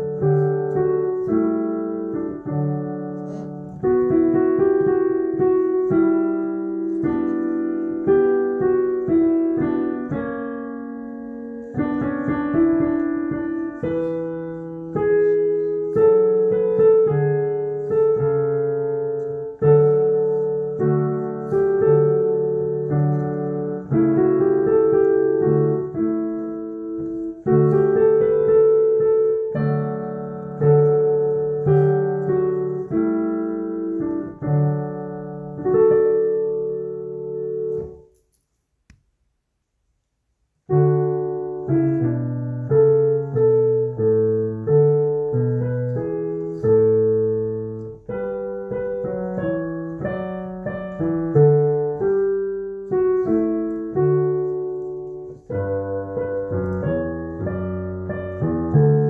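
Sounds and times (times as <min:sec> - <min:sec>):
slow solo piano music: 0:00.0 - 0:38.4, 0:40.6 - 0:59.0.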